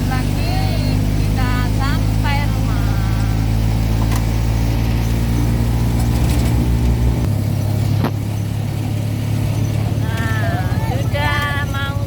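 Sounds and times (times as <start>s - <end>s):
small van engine running: 0.0s - 12.0s.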